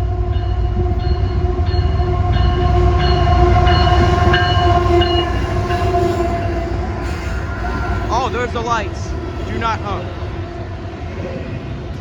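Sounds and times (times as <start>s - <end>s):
locomotive horn tone: 0.0s - 11.0s
freight train rumbling: 0.0s - 12.0s.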